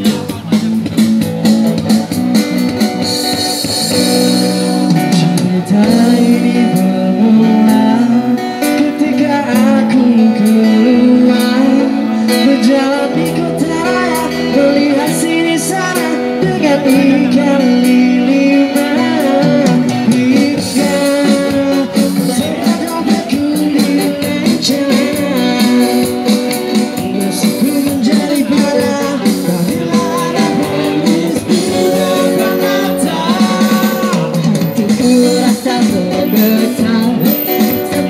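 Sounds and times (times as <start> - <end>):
acoustic guitar: 0.0 - 38.0
person singing into a microphone: 3.0 - 38.0.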